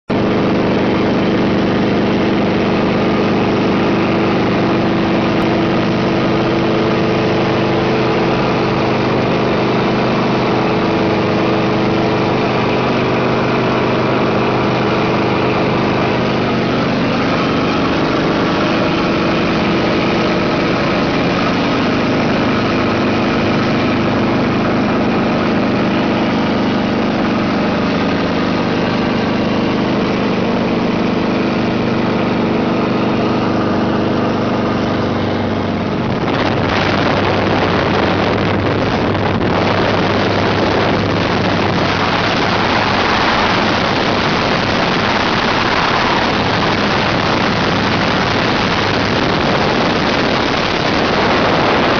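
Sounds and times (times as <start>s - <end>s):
helicopter engine and rotor drone: 0.1s - 51.9s.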